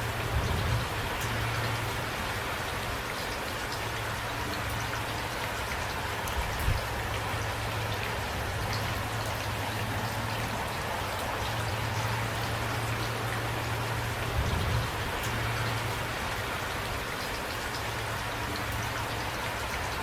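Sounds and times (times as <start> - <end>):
light rain: 0.0 - 20.0.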